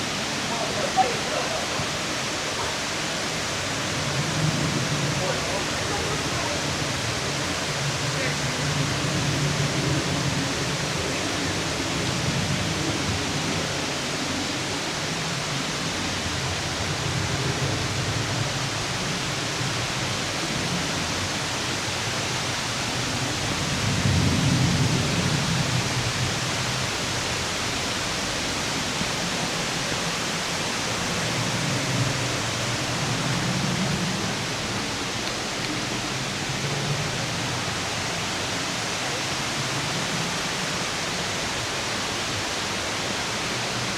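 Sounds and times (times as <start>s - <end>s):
deep water rumble: 0.0s - 43.9s
rush of falling water: 0.0s - 43.9s.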